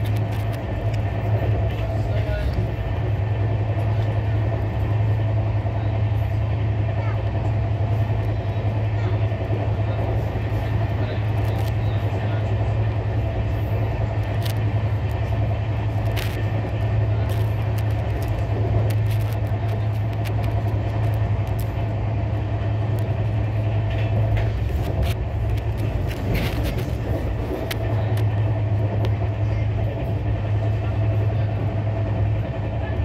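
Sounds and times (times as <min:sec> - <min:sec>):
train coach rumble and hum: 0:00.0 - 0:33.0
wheels clicking on track: 0:00.0 - 0:33.0.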